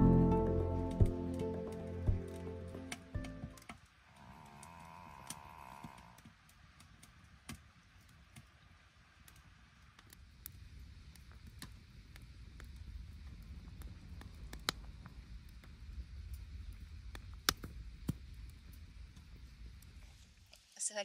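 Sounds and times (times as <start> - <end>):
low background noise: 0.0 - 21.0
wood fire crackling: 0.0 - 21.0.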